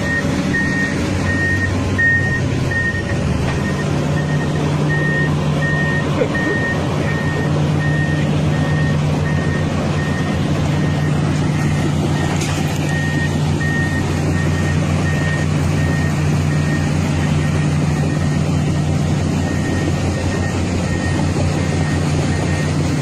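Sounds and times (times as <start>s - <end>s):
heavy diesel engine running: 0.0s - 23.0s
reversing alarm beeping: 0.0s - 23.0s.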